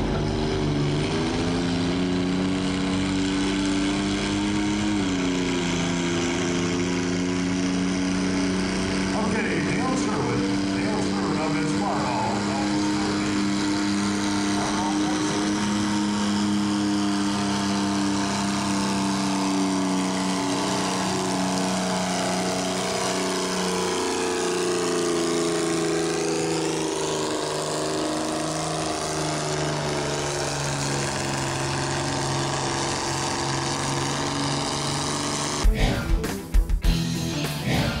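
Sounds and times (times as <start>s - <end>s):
tractor engine working hard: 0.0s - 38.0s.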